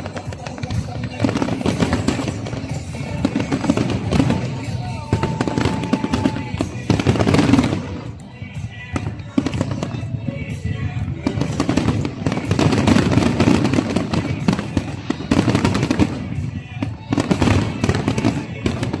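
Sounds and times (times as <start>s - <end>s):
fireworks bangs and crackles: 0.0s - 19.0s
music: 0.0s - 19.0s.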